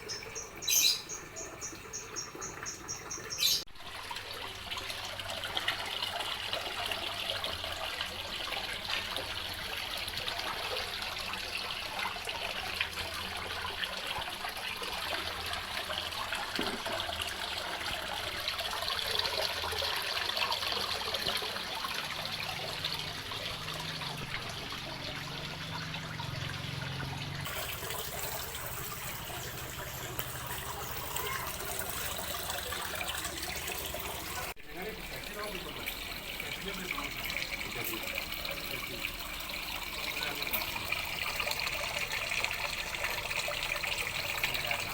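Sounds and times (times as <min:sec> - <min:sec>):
water trickling: 0:00.0 - 0:44.9.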